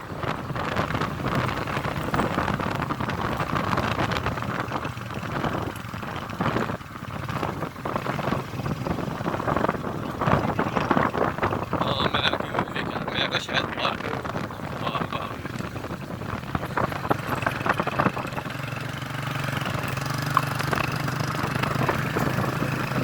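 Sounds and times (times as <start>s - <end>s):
vehicle engine and road noise: 0.0s - 23.0s
wind buffeting microphone: 0.0s - 23.0s.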